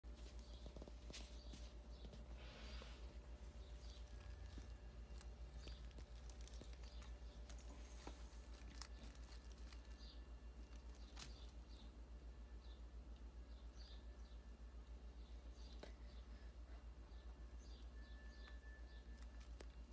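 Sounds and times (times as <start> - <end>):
steady low hum: 0.1 - 19.9.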